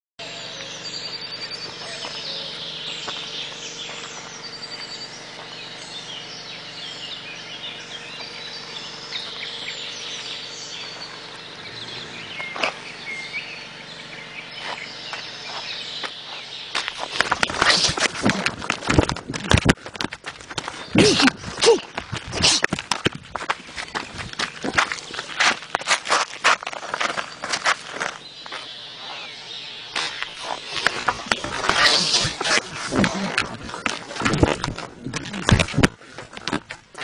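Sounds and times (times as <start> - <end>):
faint steady hum: 0.2 - 37.0
small birds singing: 0.2 - 37.0.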